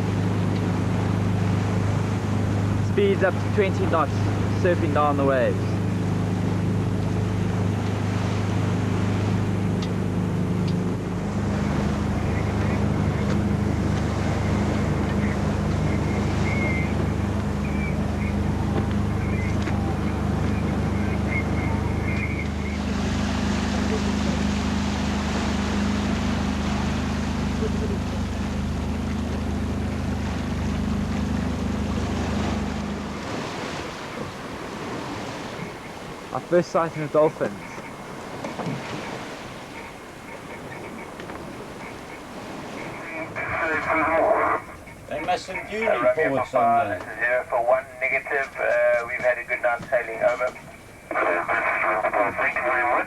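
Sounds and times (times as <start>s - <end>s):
steady low hum: 0.0s - 52.7s
water rushing past boat: 0.0s - 53.0s.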